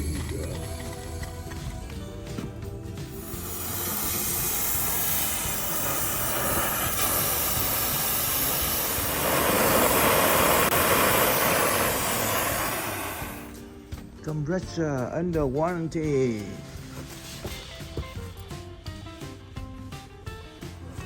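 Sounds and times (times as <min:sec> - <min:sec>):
pressurised gas hissing: 0:00.0 - 0:13.8, 0:16.6 - 0:21.0.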